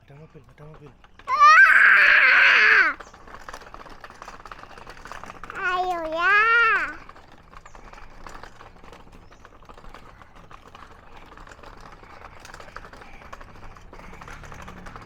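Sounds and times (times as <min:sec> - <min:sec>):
faint clicking and rustling: 0:00.0 - 0:15.0.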